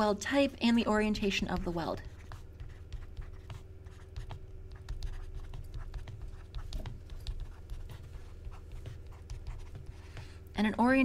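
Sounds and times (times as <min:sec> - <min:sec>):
low steady hum: 0:00.0 - 0:11.0
stylus tapping and scratching: 0:01.1 - 0:10.5.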